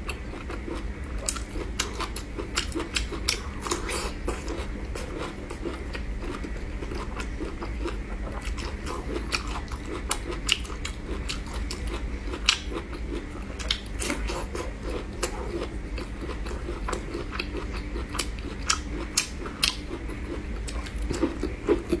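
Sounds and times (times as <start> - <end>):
person chewing crunchy food: 0.0 - 22.0.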